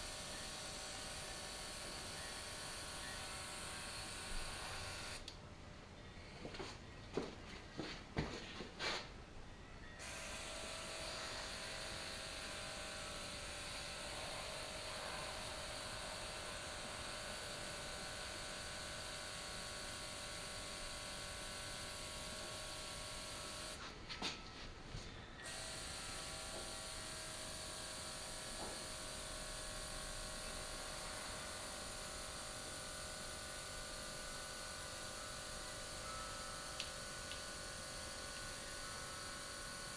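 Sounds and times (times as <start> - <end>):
airbrush compressor motor running: 0.0 - 5.3, 10.0 - 23.8, 25.4 - 39.9.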